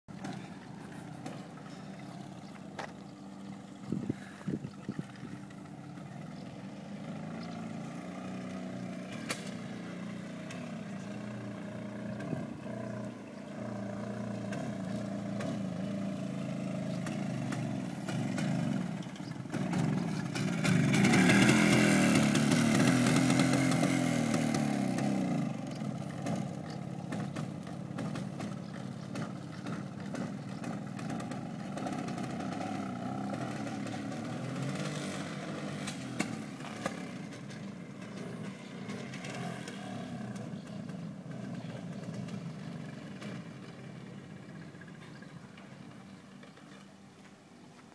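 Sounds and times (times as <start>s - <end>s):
motorcycle engine revving: 0.1s - 47.1s.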